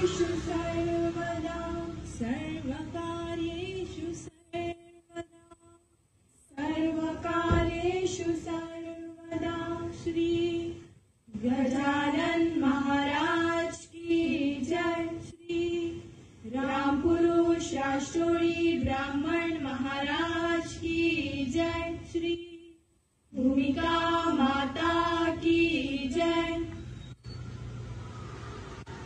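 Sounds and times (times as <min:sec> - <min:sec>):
group of women singing: 0:00.0 - 0:05.5, 0:06.5 - 0:26.8.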